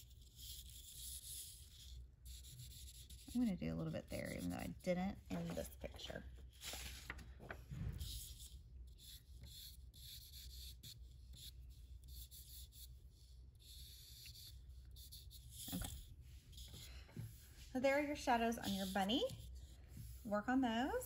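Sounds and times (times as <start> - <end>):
charcoal rubbing on paper: 0.0 - 5.7, 8.0 - 21.0.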